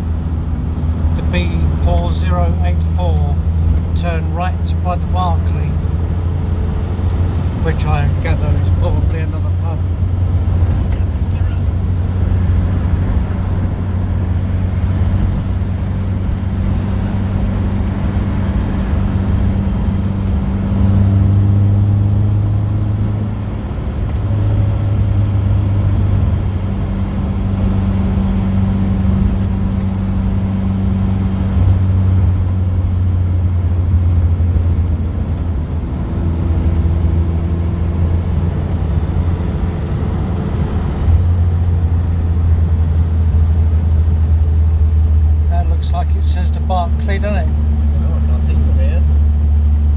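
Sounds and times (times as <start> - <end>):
car engine running inside car: 0.0 - 49.9.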